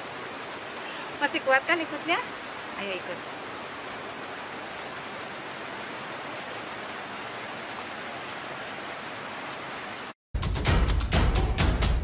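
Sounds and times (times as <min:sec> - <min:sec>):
river water rushing: 0:00.0 - 0:10.1.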